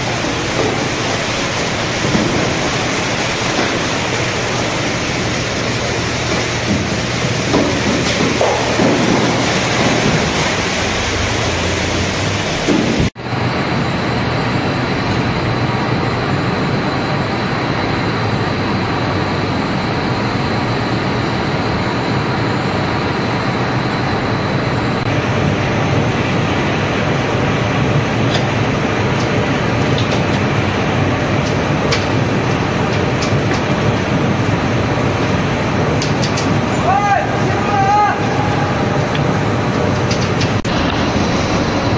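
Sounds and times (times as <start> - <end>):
machinery mechanical din: 0.0 - 41.9.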